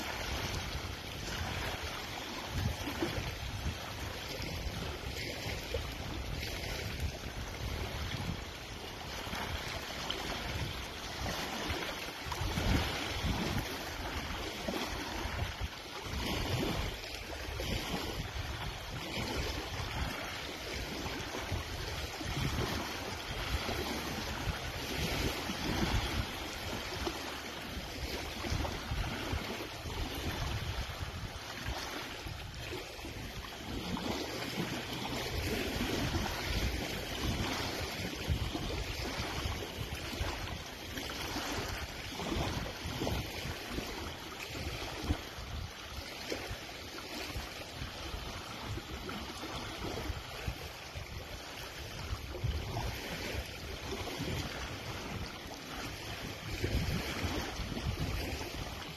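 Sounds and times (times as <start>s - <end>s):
small waves lapping on rocks: 0.0s - 58.9s
wind gusting on microphone: 0.0s - 58.9s.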